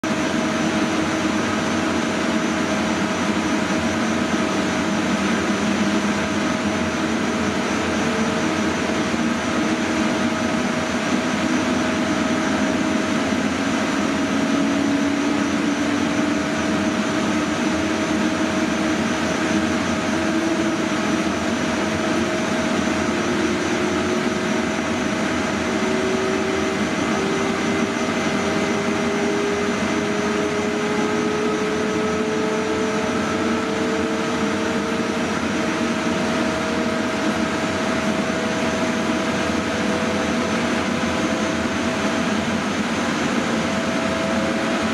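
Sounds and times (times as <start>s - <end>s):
converter whine rising in pitch: 0.0s - 44.9s
cooling blowers noise: 0.0s - 44.9s
steady higher hum: 0.0s - 44.9s.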